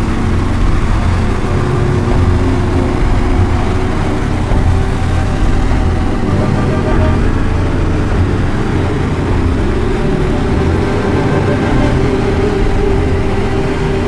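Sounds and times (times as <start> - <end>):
heavy engines rumbling: 0.0 - 14.0.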